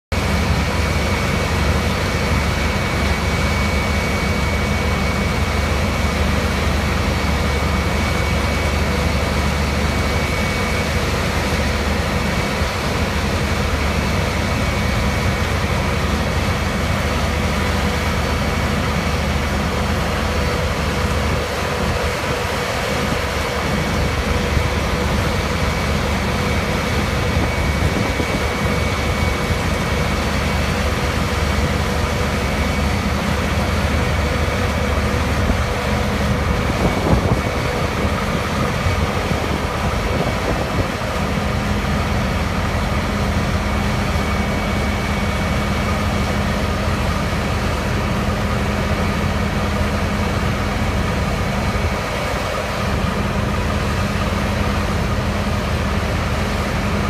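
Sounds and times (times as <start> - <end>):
high mechanical whine: 0.1 - 57.0.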